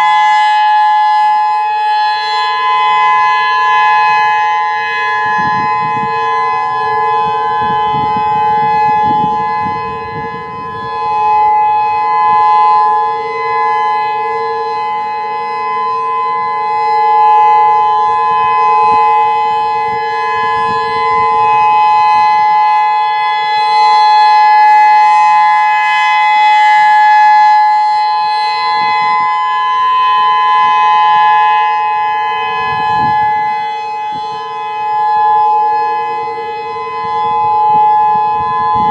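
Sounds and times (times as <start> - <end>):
warning siren steady chord: 0.0 - 38.9.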